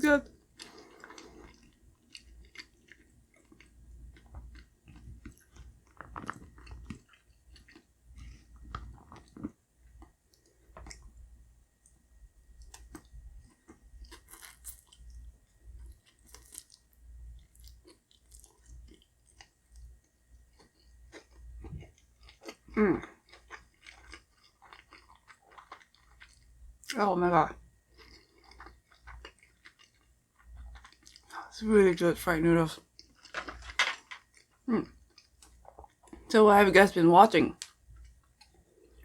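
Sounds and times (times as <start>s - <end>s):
chewing and crunching food: 0.2s - 36.9s, 37.5s - 39.0s.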